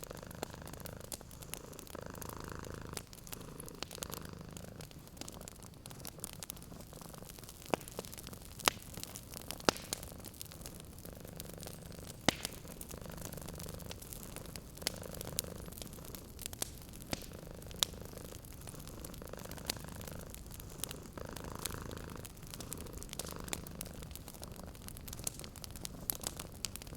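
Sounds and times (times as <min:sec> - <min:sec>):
cat purring: 0:00.0 - 0:26.9
sharp pops of fire: 0:00.0 - 0:26.9
wood fire crackling: 0:00.0 - 0:26.9.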